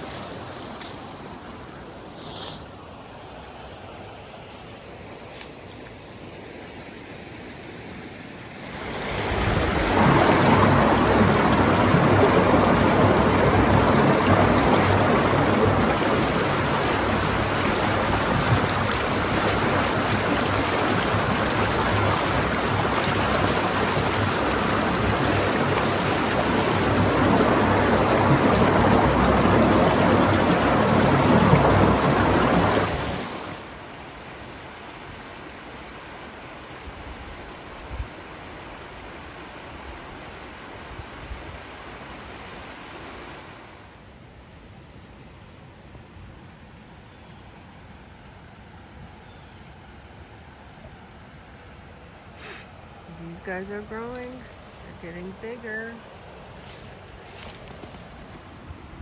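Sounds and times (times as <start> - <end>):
rushing water: 0.0 - 5.2, 8.2 - 44.2, 47.6 - 59.0.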